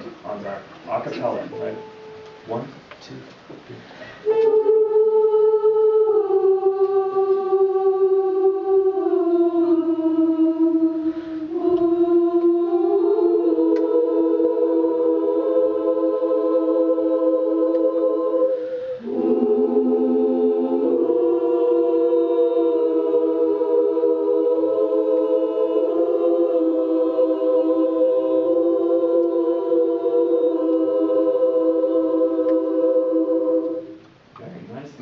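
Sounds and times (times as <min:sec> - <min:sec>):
women's choir singing held chords: 0:03.9 - 0:34.3.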